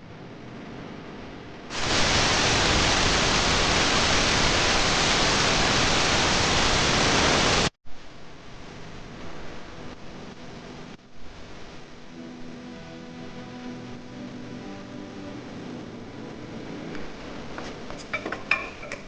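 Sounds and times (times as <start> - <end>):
loud steady hiss: 1.7 - 17.6.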